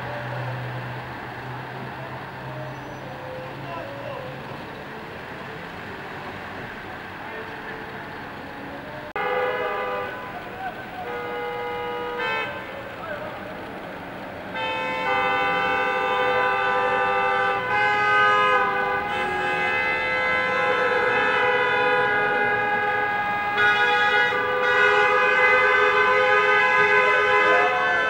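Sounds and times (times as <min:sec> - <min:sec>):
car horns honking: 0:00.0 - 0:28.0.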